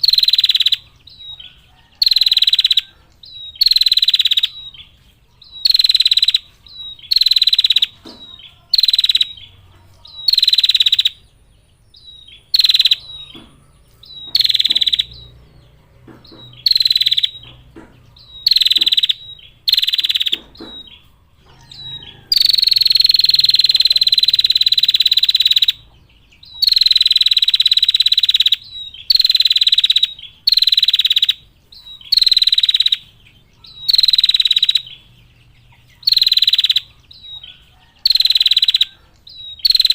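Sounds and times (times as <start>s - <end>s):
bird high rapid trilling call: 0.0s - 11.3s, 12.0s - 15.4s, 16.2s - 35.1s, 35.9s - 39.9s.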